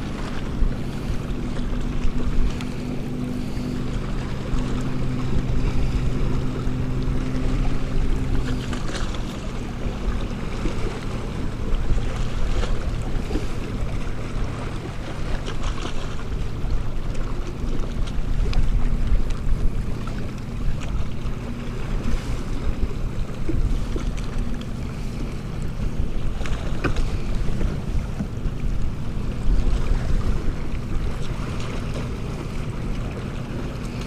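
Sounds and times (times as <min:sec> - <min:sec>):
low motor hum: 0:00.0 - 0:34.0
water lapping: 0:00.0 - 0:34.0
wind buffeting microphone: 0:00.0 - 0:34.0.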